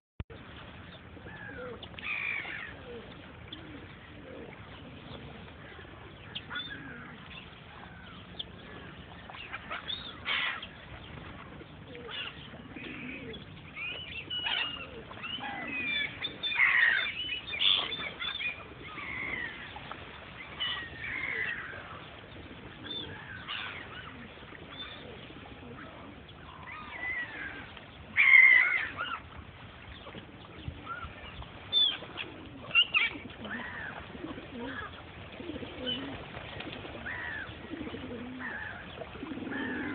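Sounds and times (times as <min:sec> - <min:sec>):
gulls calling: 0:00.3 - 0:39.9.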